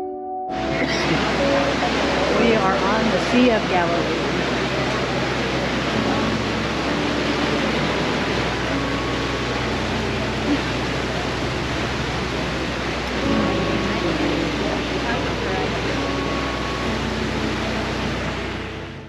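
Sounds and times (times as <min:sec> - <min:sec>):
boat engine hum: 0:00.6 - 0:19.0
wind and water rushing: 0:00.6 - 0:19.0.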